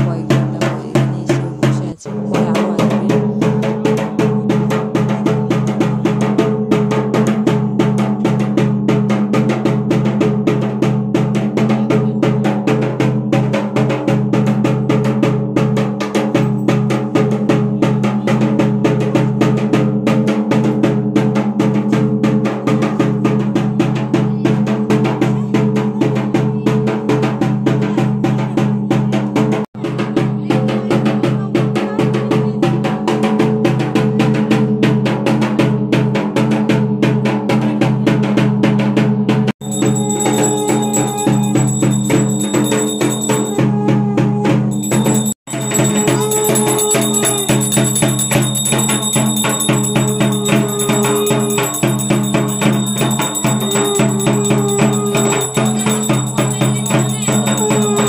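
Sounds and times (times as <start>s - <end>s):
fast drumming: 0.0s - 58.0s.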